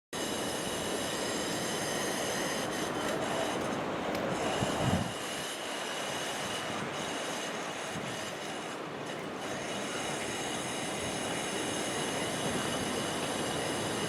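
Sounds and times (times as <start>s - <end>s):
heavy surf breaking: 0.2s - 14.0s.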